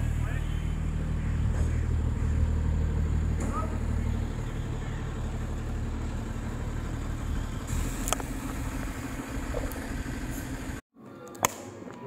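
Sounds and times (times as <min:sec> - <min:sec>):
low mechanical rumble: 0:00.0 - 0:10.8.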